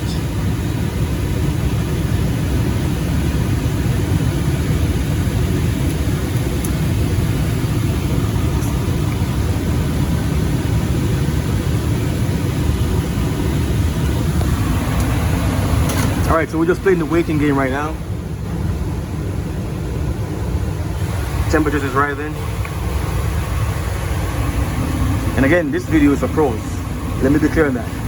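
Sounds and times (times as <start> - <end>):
gas furnace low rumble: 0.0 - 28.0.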